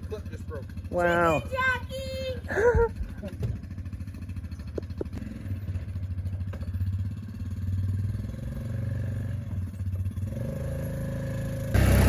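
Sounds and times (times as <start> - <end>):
quad engine throbbing: 0.0 - 12.0.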